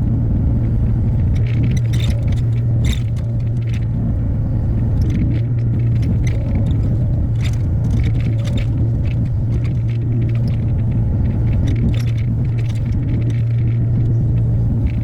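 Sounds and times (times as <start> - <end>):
excavator diesel engine running: 0.0 - 15.0
metallic clinks and scrapes: 1.2 - 4.1, 4.7 - 15.0.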